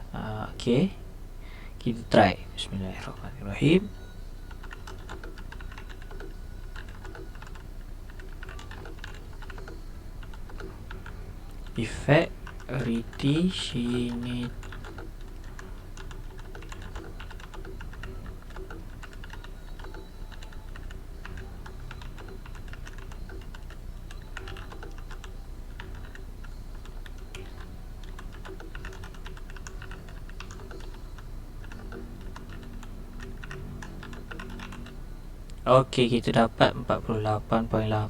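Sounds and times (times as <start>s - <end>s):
mechanical keyboard typing: 4.5s - 35.0s.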